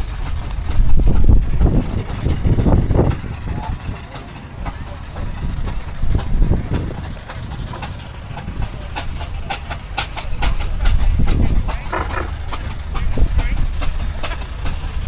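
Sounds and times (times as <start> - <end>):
steam chuffing: 0.0 - 15.0
steam engine rumble: 0.0 - 15.0
clanking knocks: 0.2 - 15.0.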